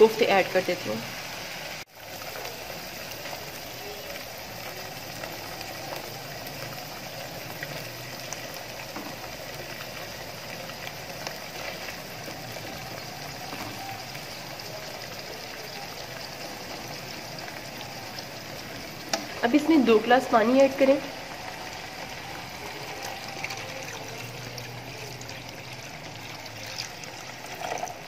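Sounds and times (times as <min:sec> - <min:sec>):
gravy sizzling and bubbling: 0:00.0 - 0:28.0.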